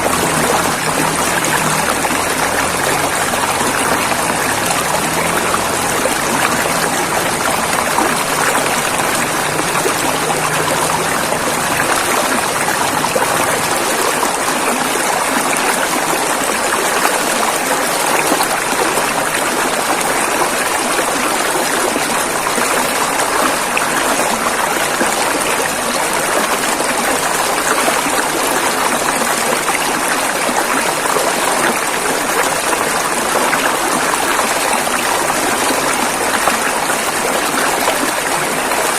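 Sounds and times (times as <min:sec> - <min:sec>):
river flowing over rocks: 0:00.0 - 0:38.9.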